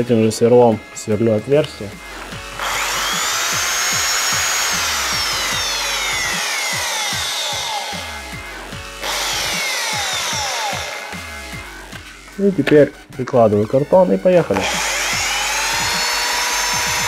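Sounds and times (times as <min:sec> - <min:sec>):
electric drill whining: 0:00.0 - 0:12.9, 0:14.4 - 0:17.0.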